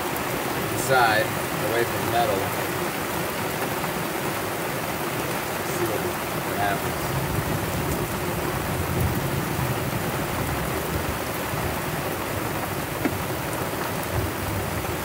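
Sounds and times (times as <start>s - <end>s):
heavy rain on the sea: 0.0s - 15.0s.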